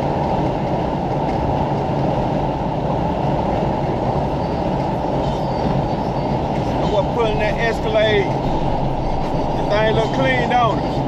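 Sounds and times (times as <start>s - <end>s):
car road and engine drone: 0.0s - 11.0s.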